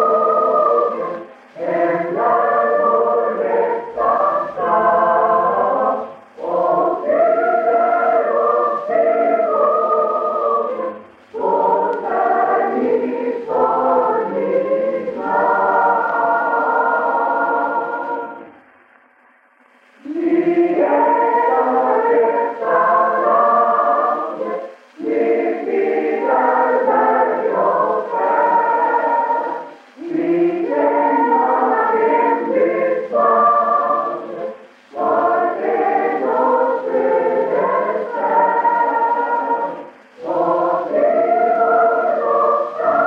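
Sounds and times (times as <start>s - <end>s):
choir singing: 0.0s - 18.7s, 19.9s - 43.0s.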